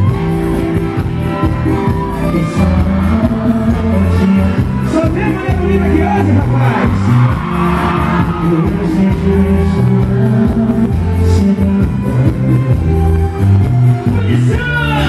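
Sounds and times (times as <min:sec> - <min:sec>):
live band music: 0:00.0 - 0:15.0
man singing amplified: 0:02.0 - 0:15.0.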